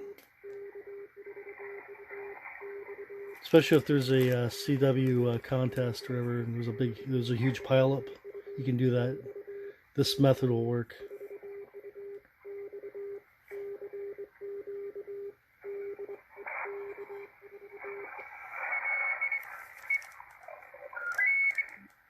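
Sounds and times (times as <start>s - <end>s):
morse code beeps: 0.0s - 9.8s, 11.0s - 18.1s, 20.9s - 21.9s.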